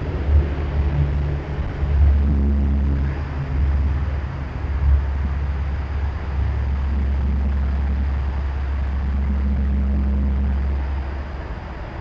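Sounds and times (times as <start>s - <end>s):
faint hum: 0.0s - 12.0s
low mechanical rumble: 0.0s - 12.0s.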